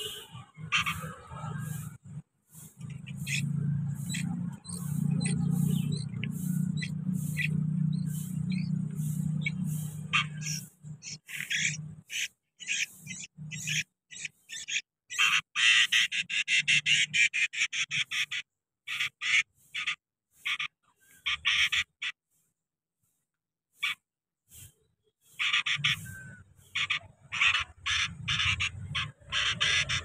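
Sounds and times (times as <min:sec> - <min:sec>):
birds chirping: 0:00.0 - 0:22.5, 0:23.1 - 0:30.0.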